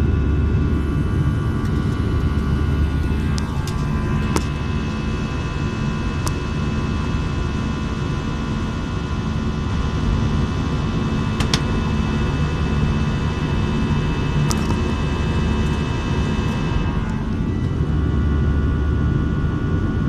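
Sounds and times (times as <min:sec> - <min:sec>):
engine rumble and airflow roar: 0:00.0 - 0:20.0
steady whining tones: 0:00.0 - 0:20.0.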